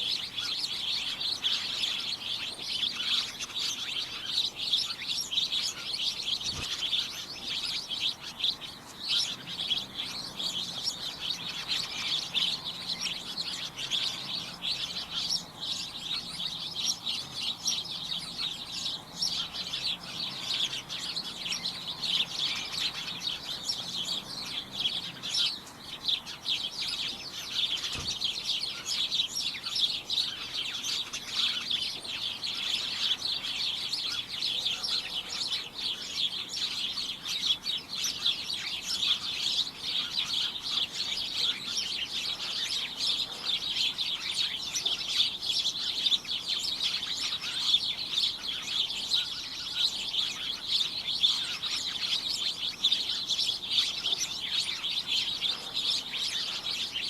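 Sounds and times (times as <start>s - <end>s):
flock of small birds chirping: 0.0s - 57.0s.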